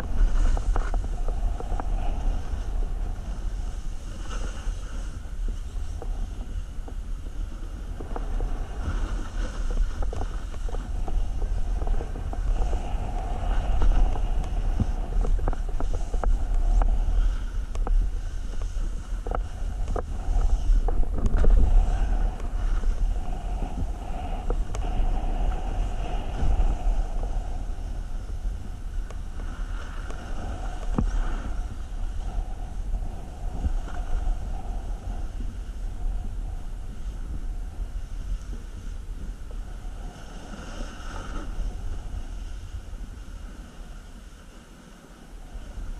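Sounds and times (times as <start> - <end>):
skis scraping over snow: 0.0 - 45.9
wind buffeting microphone: 0.0 - 45.9.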